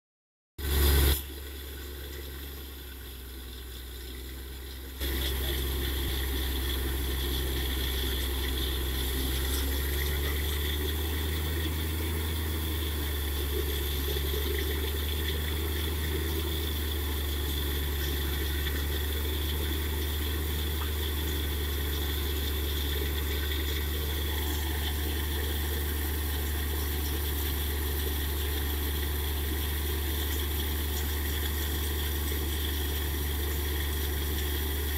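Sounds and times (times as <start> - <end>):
drilling rig engine hum: 0.6 - 34.9.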